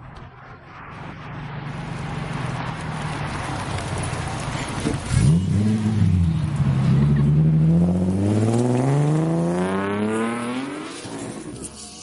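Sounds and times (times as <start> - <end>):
car engine accelerating hard: 1.7 - 11.8.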